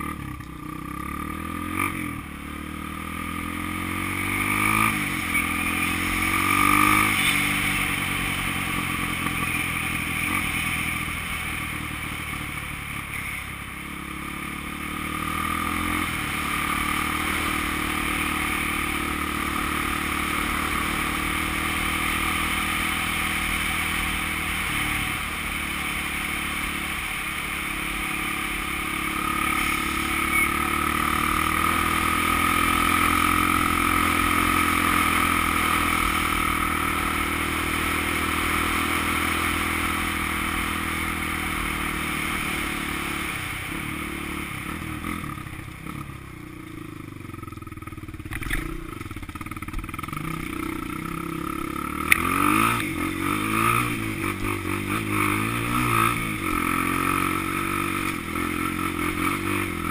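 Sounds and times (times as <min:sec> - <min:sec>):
dirt bike engine accelerating: 0:00.0 - 0:59.9.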